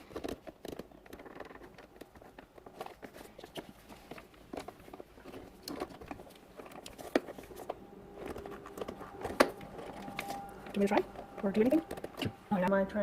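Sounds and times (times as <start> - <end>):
plastic parts clicking and tapping: 0.0 - 12.4.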